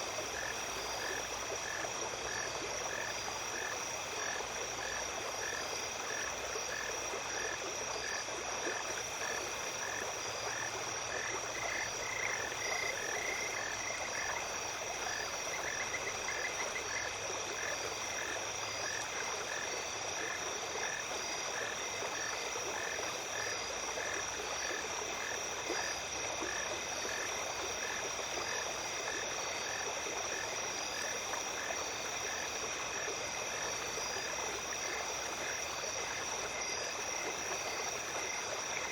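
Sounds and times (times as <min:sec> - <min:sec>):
insects chorus: 0:00.0 - 0:38.9
stream water flowing: 0:00.0 - 0:38.9.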